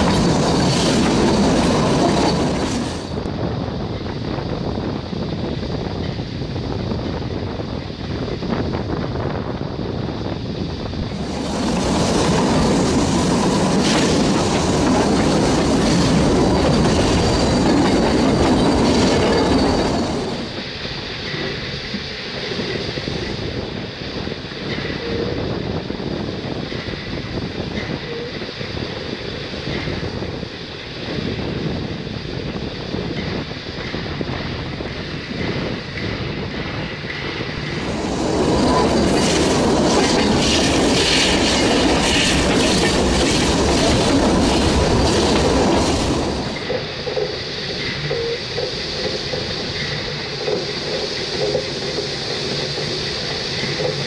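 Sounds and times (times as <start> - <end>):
steam train wheels clattering: 0.0 - 3.3, 11.0 - 54.0.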